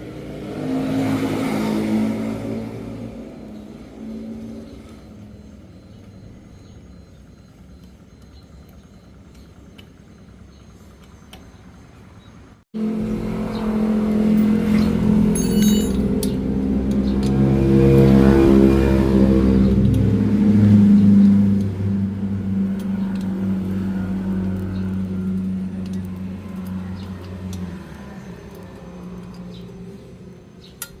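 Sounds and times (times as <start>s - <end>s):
motorcycle engine revving: 0.0s - 11.9s, 12.8s - 31.0s.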